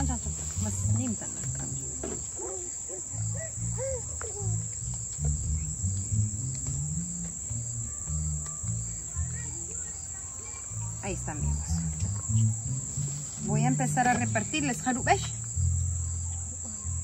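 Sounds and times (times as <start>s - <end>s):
faint voices: 0.0s - 17.0s
night insects trilling: 0.0s - 17.0s.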